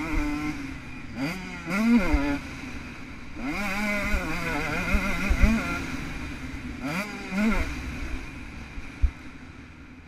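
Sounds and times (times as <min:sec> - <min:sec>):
two-stroke motorbike revving: 0:00.0 - 0:10.0.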